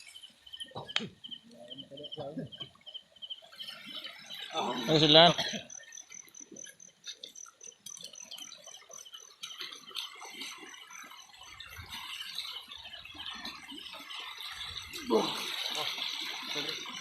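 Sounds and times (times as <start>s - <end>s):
water splashes and drips: 0.0s - 17.0s.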